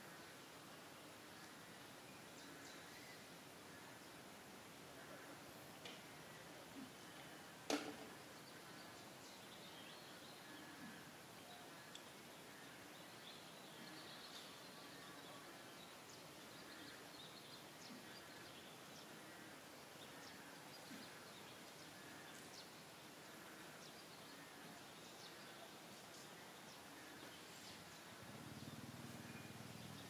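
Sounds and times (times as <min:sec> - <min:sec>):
faint outdoor hiss: 0:00.0 - 0:30.0.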